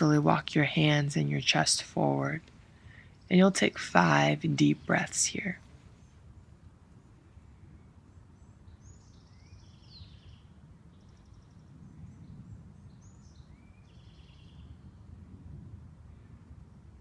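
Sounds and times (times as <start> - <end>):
songbird singing trills: 0.0 - 15.1
steady low rumble: 0.0 - 17.0.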